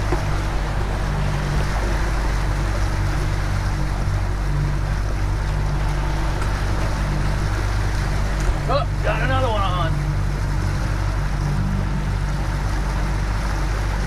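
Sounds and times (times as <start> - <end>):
outboard motor humming: 0.0 - 14.0
water rushing past hull: 0.0 - 14.0
wind: 0.0 - 14.0.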